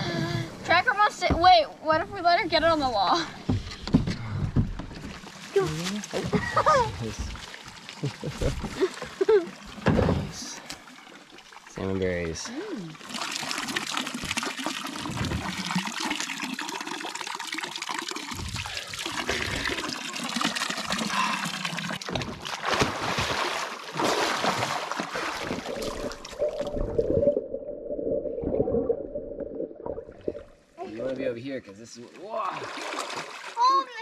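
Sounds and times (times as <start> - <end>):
water splashing and trickling: 0.0 - 34.0.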